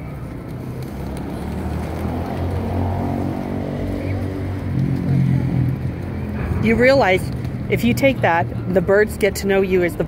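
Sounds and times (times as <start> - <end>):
low rumble of street noise: 0.0 - 10.0.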